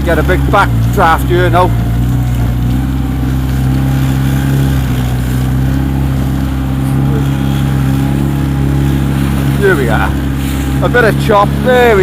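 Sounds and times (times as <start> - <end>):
outboard motor running: 0.0 - 12.0
water noise: 0.0 - 12.0
wind: 0.0 - 12.0.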